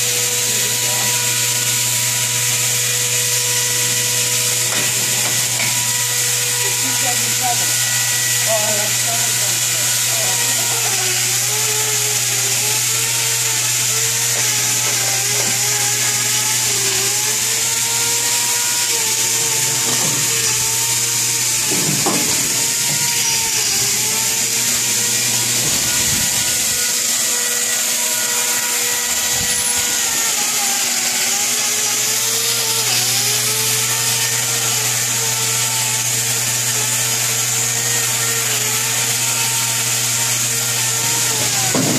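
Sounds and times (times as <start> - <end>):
angle grinder whining: 0.0 - 41.9.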